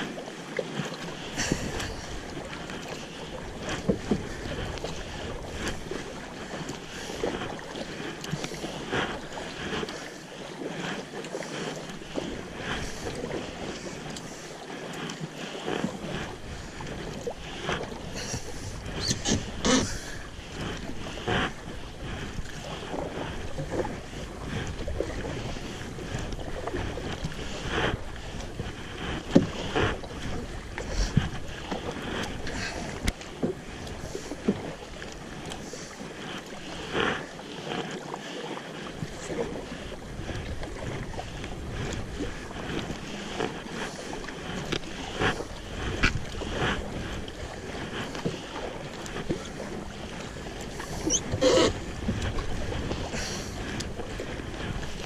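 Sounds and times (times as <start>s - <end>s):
kayak paddles splashing water: 0.0s - 55.0s.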